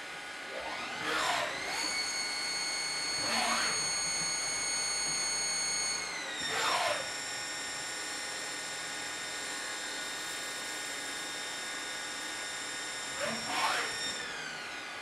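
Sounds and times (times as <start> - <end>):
lathe spindle whine: 0.1 - 15.0.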